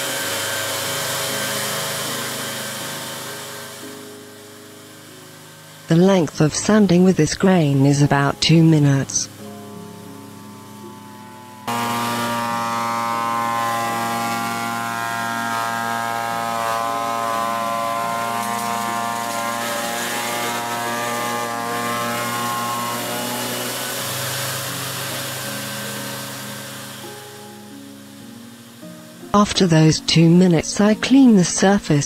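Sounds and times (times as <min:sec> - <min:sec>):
disc sander sanding wood: 0:00.0 - 0:07.8, 0:09.2 - 0:29.8.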